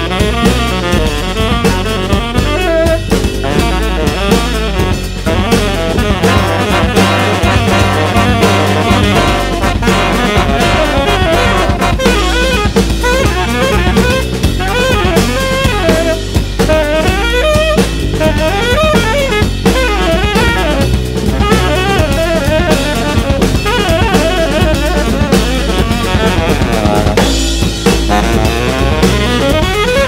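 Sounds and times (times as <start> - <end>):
drum kit: 0.0 - 30.0
saxophone melody: 0.0 - 30.0.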